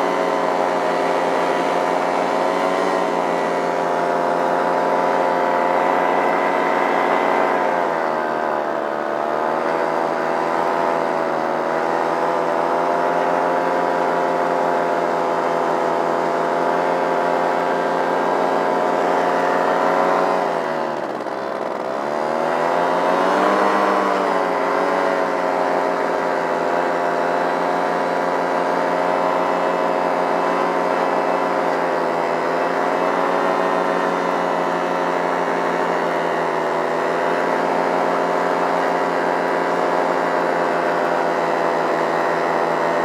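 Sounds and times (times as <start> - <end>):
muffled paramotor engine running: 0.0 - 43.0.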